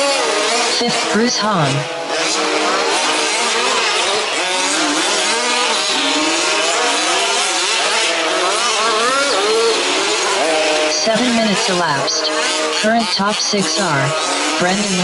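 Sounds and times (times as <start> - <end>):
rc truck engines revving: 0.0 - 15.0.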